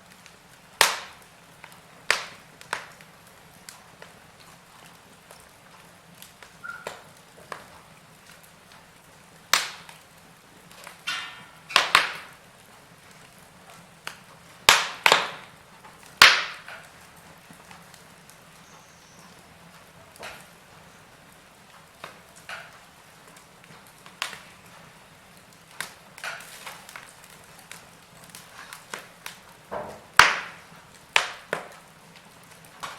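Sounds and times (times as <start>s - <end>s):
faint steady hiss: 0.0s - 32.9s
wood fire crackling and popping: 0.0s - 32.9s.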